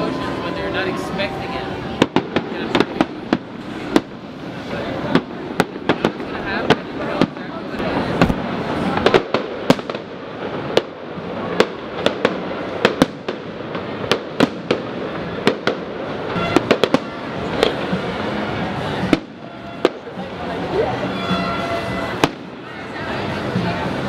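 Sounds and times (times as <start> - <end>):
continuous noisy background: 0.0 - 24.0
fireworks bursting with loud bangs: 0.0 - 24.0.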